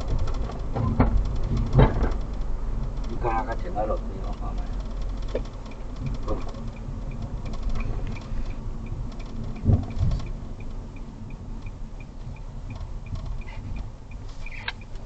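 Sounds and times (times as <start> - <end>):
road rumble inside car: 0.0 - 15.0
turn signal ticking: 0.0 - 15.0.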